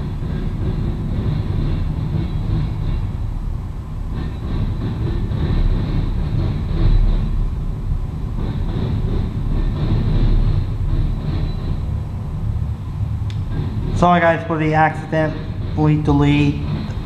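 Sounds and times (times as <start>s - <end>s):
freight train wheels rumbling: 0.0s - 17.0s
thin high whine: 0.0s - 17.0s.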